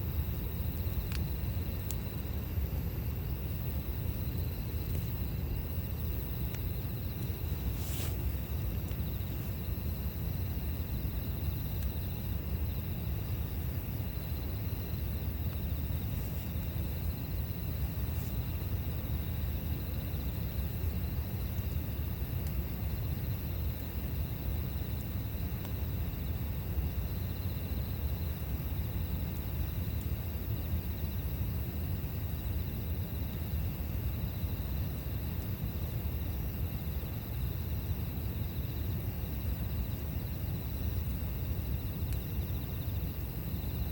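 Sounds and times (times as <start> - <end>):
campfire rumbling and crackling: 0.0 - 43.9
insects chirping: 0.0 - 43.9.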